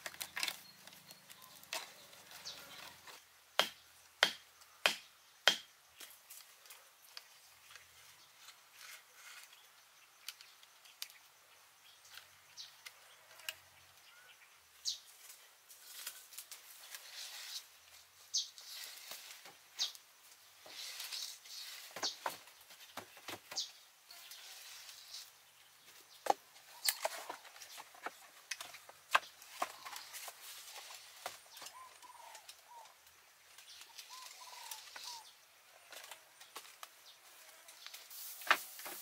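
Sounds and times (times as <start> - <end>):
bamboo poles clicking and knocking: 0.0 - 11.4, 15.2 - 37.0, 37.8 - 39.0.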